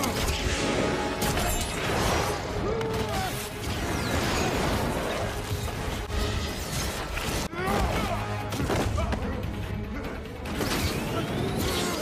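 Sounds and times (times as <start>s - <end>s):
dramatic film score music: 0.0s - 12.0s.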